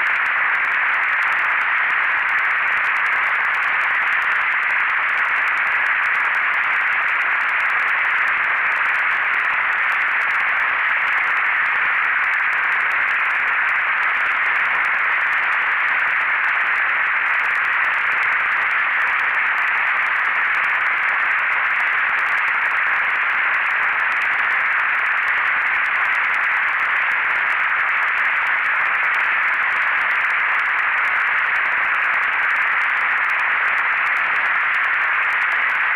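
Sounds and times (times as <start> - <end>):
synthesized static hiss: 0.0 - 35.9.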